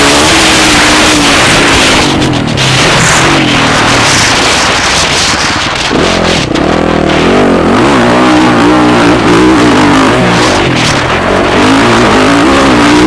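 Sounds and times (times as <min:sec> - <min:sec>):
engine revving: 0:00.0 - 0:13.0
motocross bike engines: 0:00.0 - 0:13.0.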